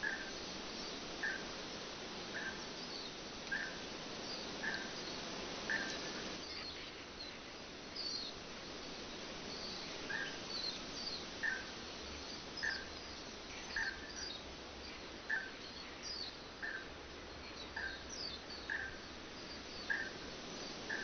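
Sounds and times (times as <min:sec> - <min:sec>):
songbirds calling: 0:00.0 - 0:21.0.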